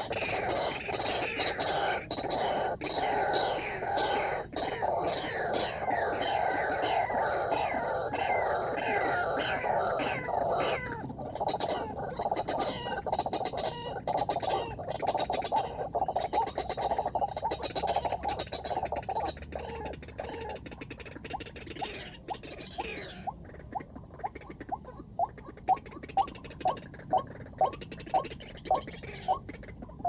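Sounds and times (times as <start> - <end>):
waterhen calling: 0.0 - 30.0.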